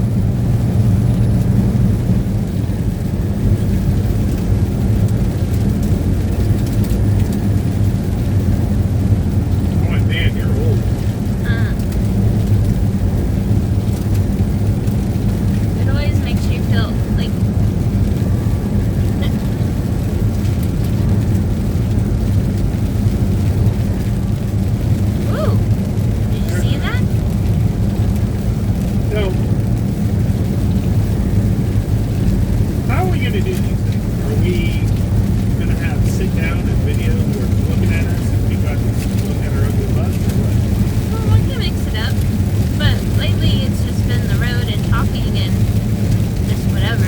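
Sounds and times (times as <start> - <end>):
truck rumbling on wet road: 0.0 - 47.0
faint rain ticks: 0.4 - 47.0.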